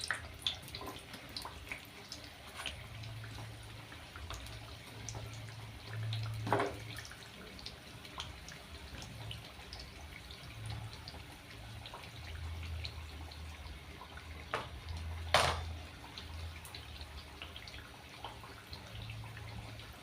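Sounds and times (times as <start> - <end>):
dough sizzling in hot oil: 0.0 - 20.0.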